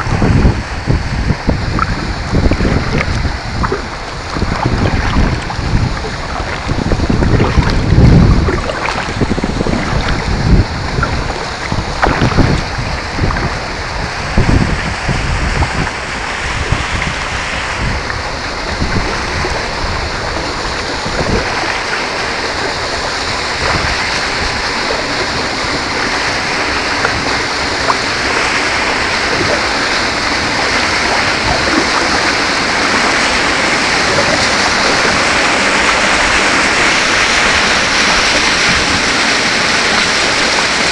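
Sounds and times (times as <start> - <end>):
river water rushing: 0.0 - 40.9
wind buffeting microphone: 0.0 - 40.9.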